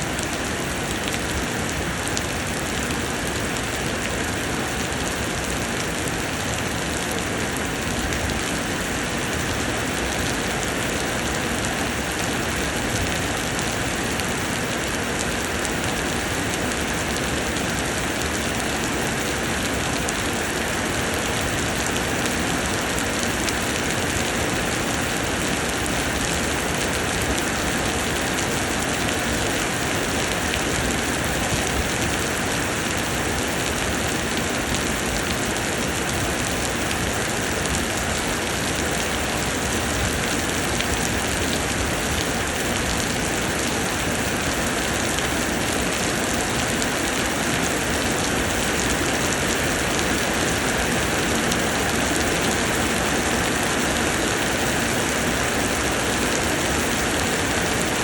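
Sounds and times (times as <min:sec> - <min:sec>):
rain pouring: 0:00.0 - 0:58.0.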